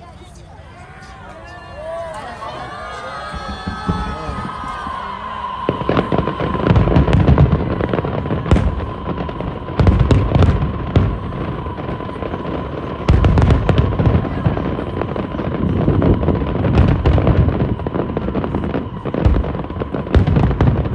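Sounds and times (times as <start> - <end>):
fireworks cracking: 2.8 - 20.9
fireworks booming: 3.2 - 20.9.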